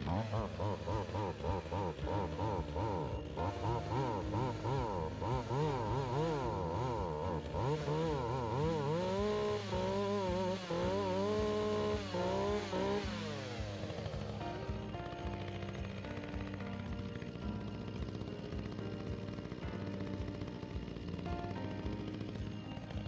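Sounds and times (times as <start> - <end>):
chainsaw running and cutting: 0.0 - 23.0.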